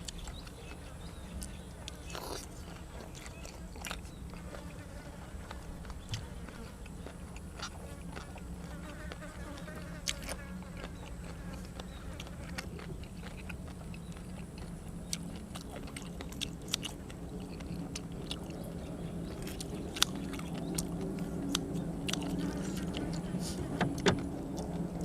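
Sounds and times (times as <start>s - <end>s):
close-up chewing and biting: 0.0s - 25.0s
steady low hum: 0.0s - 25.0s.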